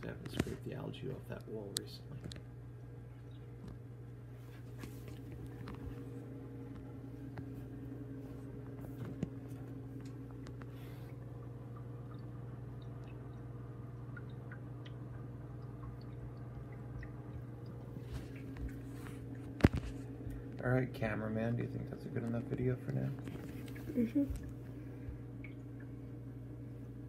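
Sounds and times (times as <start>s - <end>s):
aquarium pump hum: 0.0s - 27.0s.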